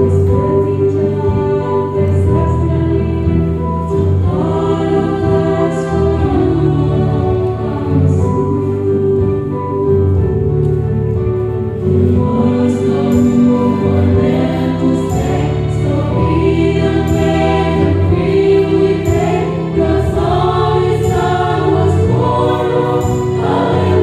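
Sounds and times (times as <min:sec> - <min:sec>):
mixed choir singing: 0:00.0 - 0:09.7, 0:11.8 - 0:24.0.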